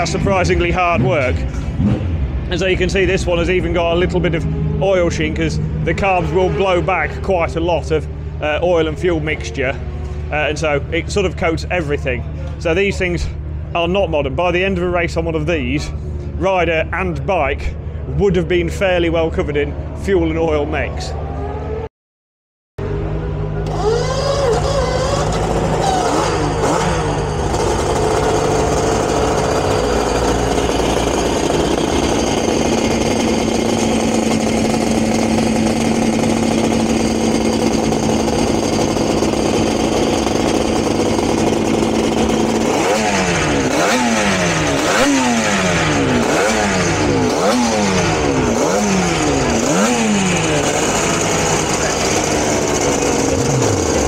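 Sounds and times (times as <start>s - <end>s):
racing motorcycle engine revving: 0.0s - 11.4s, 19.7s - 21.9s, 22.8s - 54.0s.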